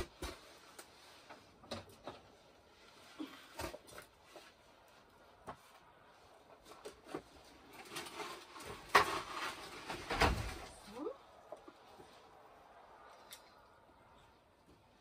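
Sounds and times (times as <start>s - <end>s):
scraping and rustling: 0.0s - 13.6s.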